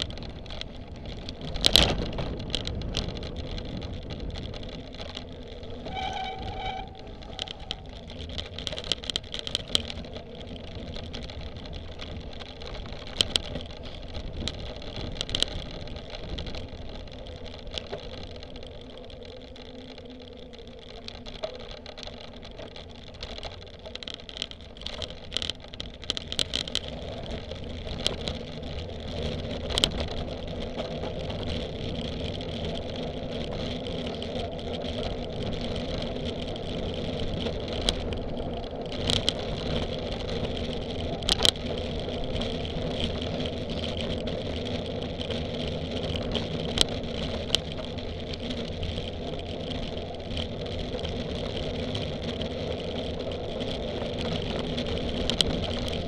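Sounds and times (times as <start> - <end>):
bike knocking and rattling: 0.0 - 56.0
wind and tyre noise: 0.0 - 56.0.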